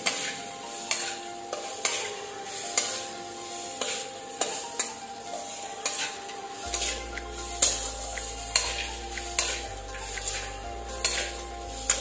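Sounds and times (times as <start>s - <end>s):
light sizzle: 0.0s - 12.0s
spatula scraping a metal wok: 0.0s - 12.0s.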